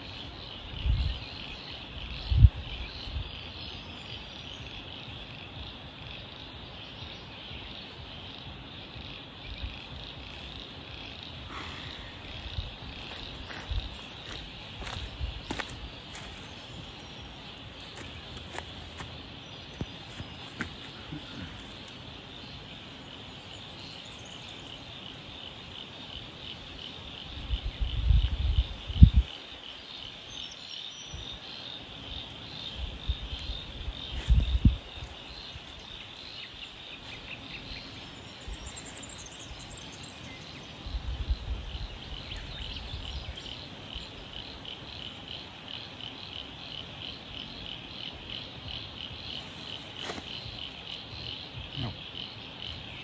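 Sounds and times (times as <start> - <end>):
insects calling: 0.0 - 53.0.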